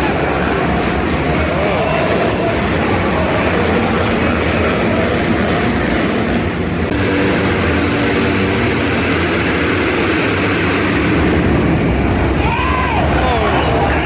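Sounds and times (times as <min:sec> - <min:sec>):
dirt bike engines running: 0:00.0 - 0:14.0.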